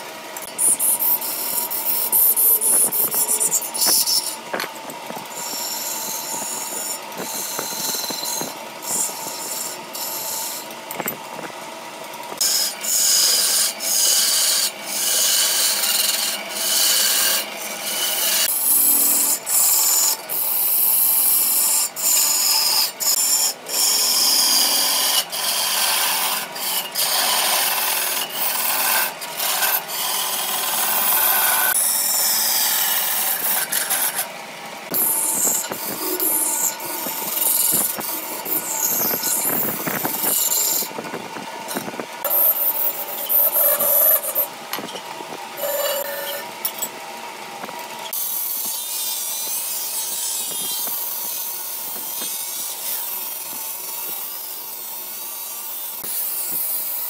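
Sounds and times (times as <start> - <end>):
lathe tool scraping wood: 0.0 - 11.6, 12.3 - 46.9.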